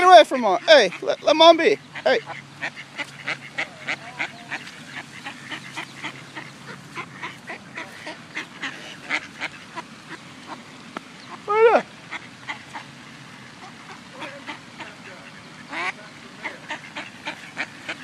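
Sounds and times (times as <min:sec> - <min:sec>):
mallards calling: 0:00.0 - 0:18.0.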